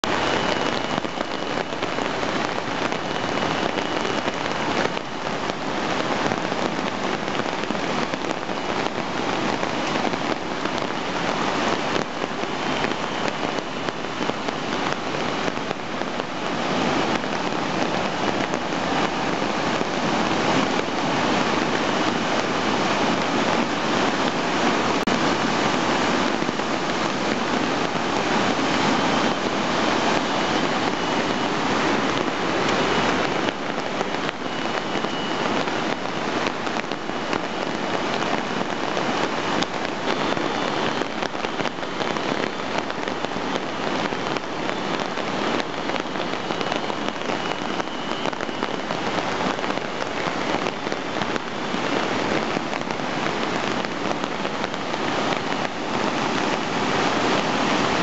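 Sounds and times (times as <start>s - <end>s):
floodwater rushing: 0.0s - 58.0s.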